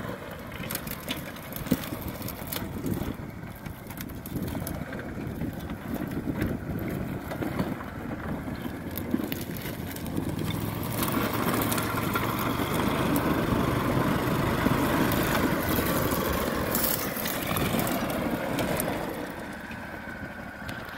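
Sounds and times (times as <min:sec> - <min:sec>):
small engine running: 0:00.0 - 0:20.9
stones crackling under tyres: 0:00.0 - 0:20.9.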